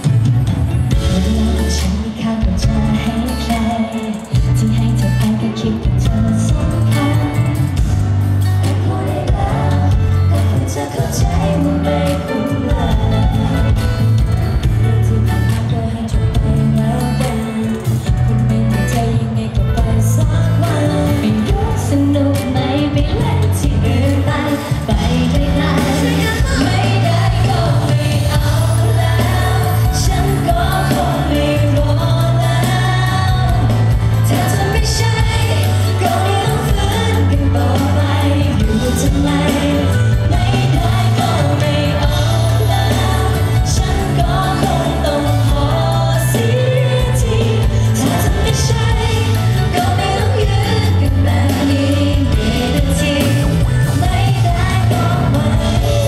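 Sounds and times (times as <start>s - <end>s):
drums: 0.0s - 56.0s
electric bass: 0.0s - 56.0s
electric guitar: 0.0s - 56.0s
woman singing: 0.9s - 56.0s.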